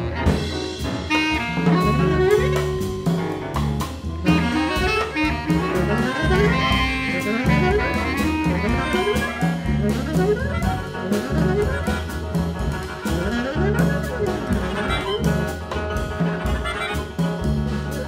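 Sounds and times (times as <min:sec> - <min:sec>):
alto saxophone: 0:00.0 - 0:18.0
bass clarinet: 0:00.0 - 0:18.0
drums: 0:00.0 - 0:18.0
low bass figure: 0:00.0 - 0:18.0.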